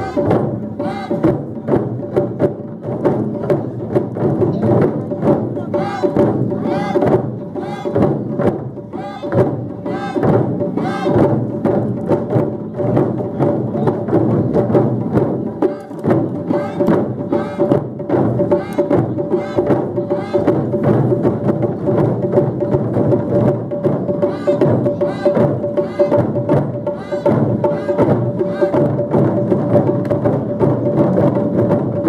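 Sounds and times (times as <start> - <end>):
taiko drums playing: 0.0 - 32.0.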